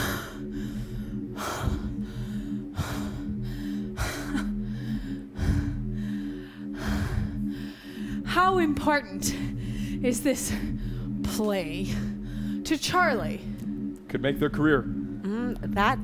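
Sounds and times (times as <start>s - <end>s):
low hum of sustained tones: 0.0s - 16.0s.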